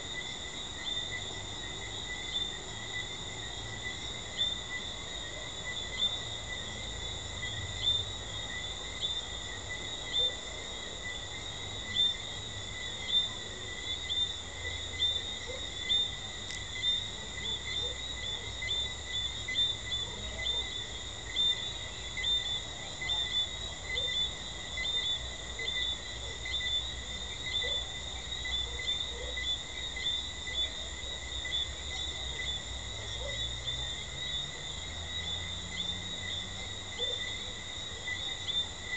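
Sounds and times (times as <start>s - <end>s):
frogs chirping: 0.0s - 38.9s.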